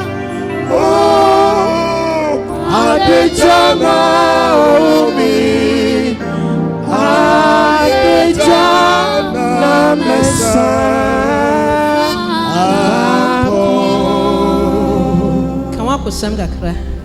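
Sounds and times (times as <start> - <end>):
gospel singing: 0.0 - 17.0.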